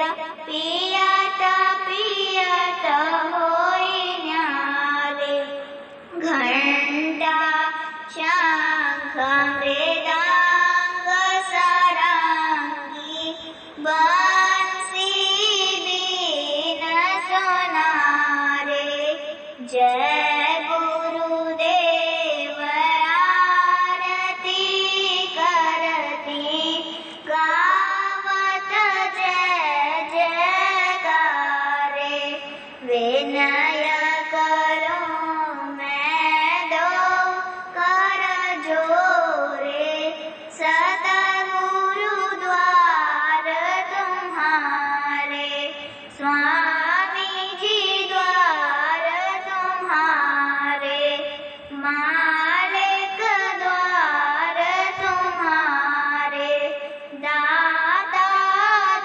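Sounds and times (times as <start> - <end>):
girl singing devotional song: 0.0 - 59.0.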